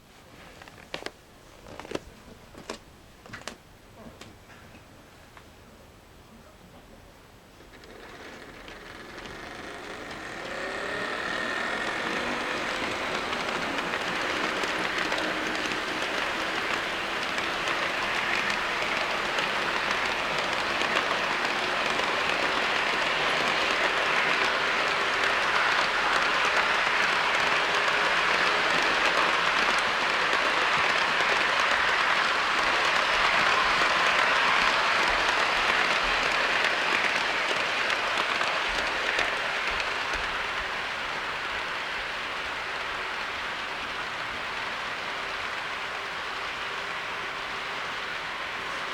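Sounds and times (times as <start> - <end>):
model train wheels rattling on rail: 7.6 - 48.9.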